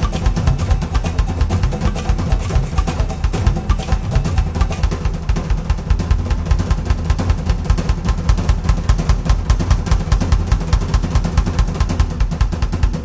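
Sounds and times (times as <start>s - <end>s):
drum kit solo: 0.0s - 13.0s.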